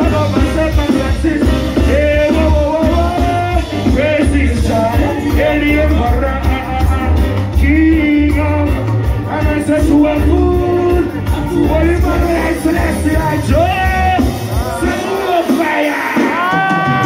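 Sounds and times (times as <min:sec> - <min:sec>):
man singing: 0:00.0 - 0:17.0
reggae band playing: 0:00.0 - 0:17.0.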